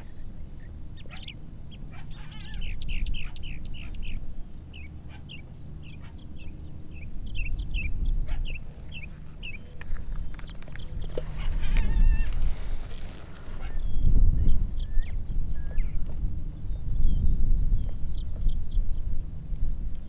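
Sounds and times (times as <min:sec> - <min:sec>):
low rumble: 0:02.5 - 0:20.0.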